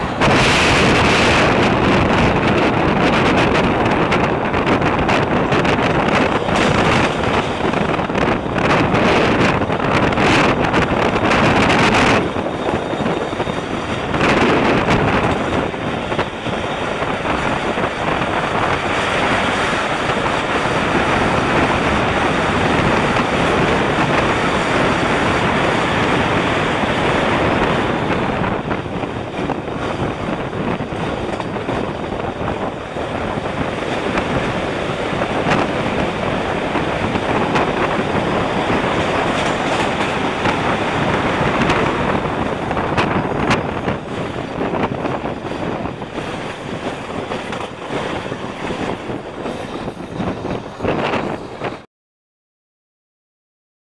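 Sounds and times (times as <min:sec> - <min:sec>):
train wheels rushing on rails: 0:00.0 - 0:51.8
wind buffeting microphone: 0:00.0 - 0:51.9.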